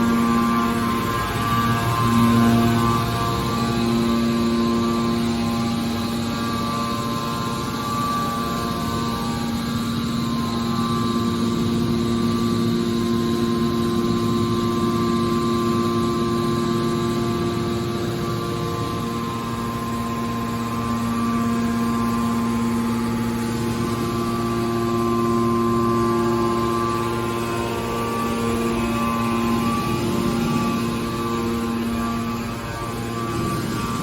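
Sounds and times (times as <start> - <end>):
hydraulic power unit humming: 0.0 - 34.0.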